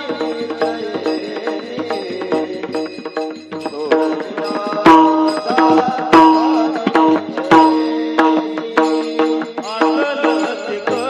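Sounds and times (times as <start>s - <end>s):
devotional music: 0.0s - 11.0s
hand drum strokes: 0.0s - 11.0s
steady held notes: 0.0s - 11.0s.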